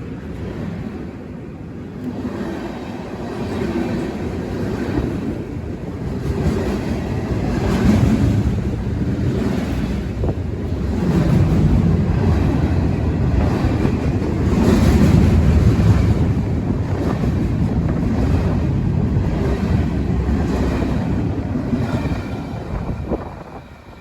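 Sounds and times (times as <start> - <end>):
wind buffeting microphone: 0.0 - 24.0
diesel locomotive rumbling: 2.8 - 24.0.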